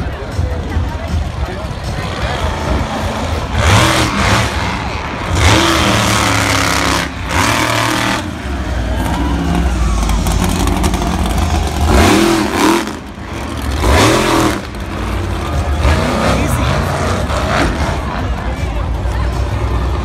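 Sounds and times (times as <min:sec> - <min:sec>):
truck engine revving loudly: 0:01.6 - 0:20.0.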